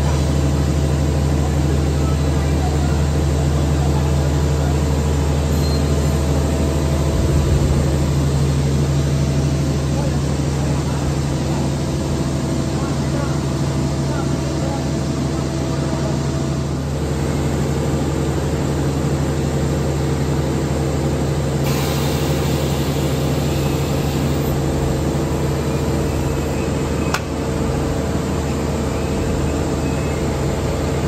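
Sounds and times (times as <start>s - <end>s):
factory din: 0.0s - 31.0s.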